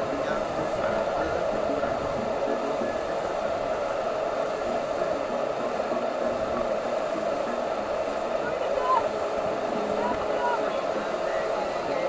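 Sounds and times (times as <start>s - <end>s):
whitewater rapids roaring: 0.0s - 12.0s.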